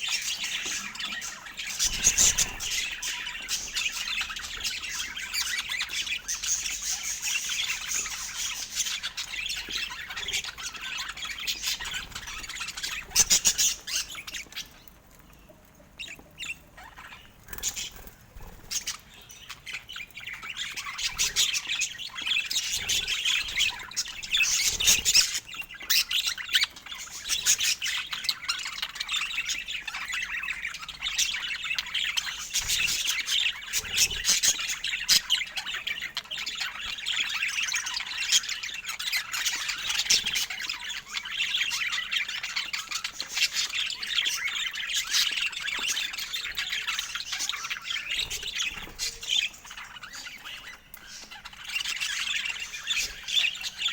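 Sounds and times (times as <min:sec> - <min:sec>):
budgerigars chattering and squawking: 0:00.0 - 0:53.9.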